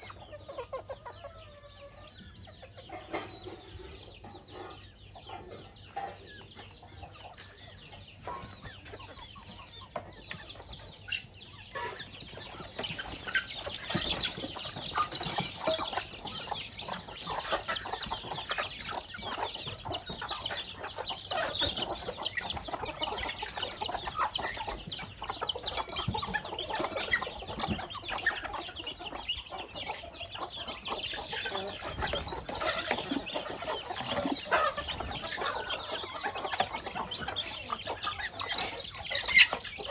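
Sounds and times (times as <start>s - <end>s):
chickens clucking: 0.0s - 39.9s
chicks cheeping: 0.0s - 39.9s.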